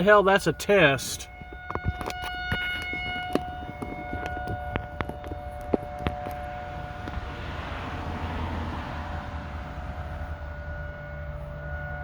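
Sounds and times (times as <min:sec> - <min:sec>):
warning siren steady tone: 0:00.0 - 0:12.0.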